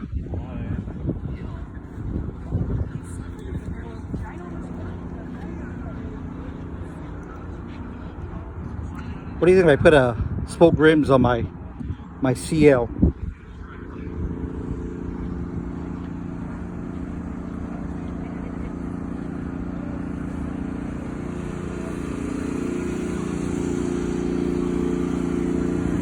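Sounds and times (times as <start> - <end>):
engine droning hum: 0.0 - 26.0.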